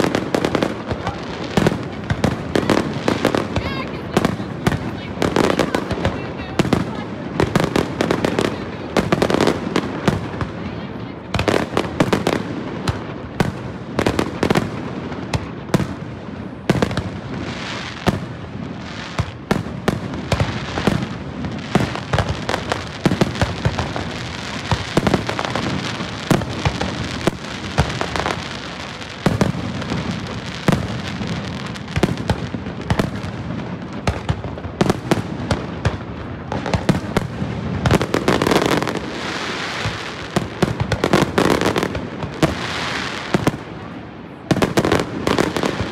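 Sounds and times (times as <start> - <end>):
fireworks bangs: 0.0 - 45.9
fireworks crackle: 0.0 - 45.9.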